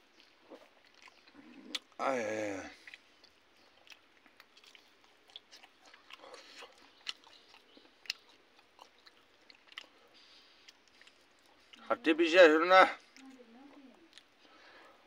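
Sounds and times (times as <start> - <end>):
chewing with mouth clicks: 0.0 - 2.0, 2.6 - 12.0, 13.0 - 15.0.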